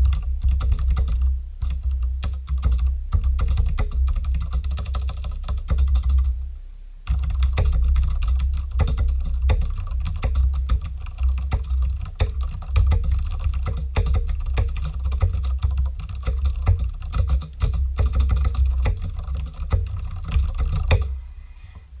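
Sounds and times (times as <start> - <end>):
mechanical keyboard typing: 0.0 - 6.3, 7.1 - 21.2.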